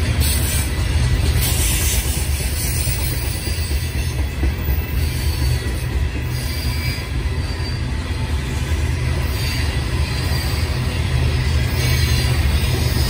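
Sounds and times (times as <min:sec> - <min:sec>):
freight train rumbling past: 0:00.0 - 0:13.0
high wheel squeal: 0:01.4 - 0:13.0.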